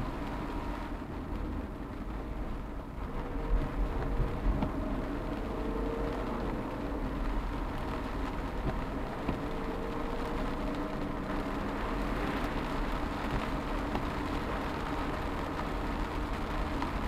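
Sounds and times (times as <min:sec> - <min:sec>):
car engine and tyre noise: 0:00.0 - 0:17.0
rain on windscreen: 0:00.0 - 0:17.0.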